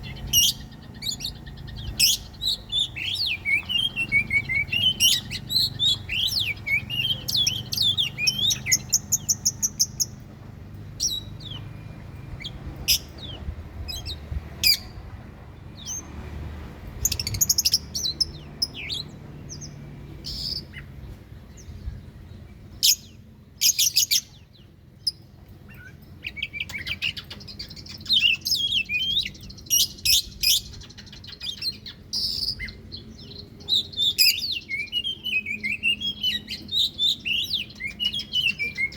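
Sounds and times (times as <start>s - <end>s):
bird singing whistles and trills: 0.0s - 10.2s, 11.0s - 15.0s, 17.0s - 38.9s.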